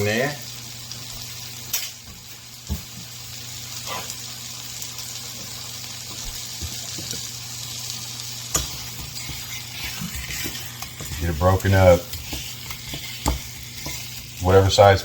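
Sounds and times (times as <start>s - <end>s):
sausage sizzling in a pan: 0.0s - 15.0s.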